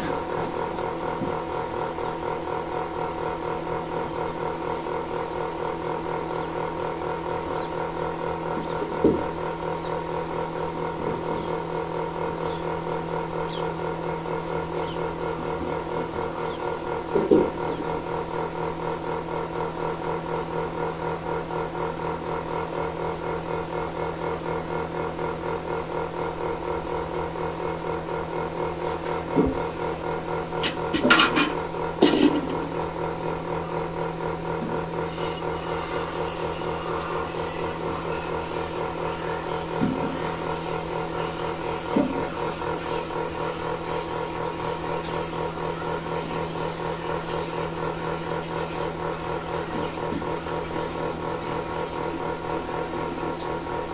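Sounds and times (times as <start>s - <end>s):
milking machine pulsing hum: 0.0s - 53.9s.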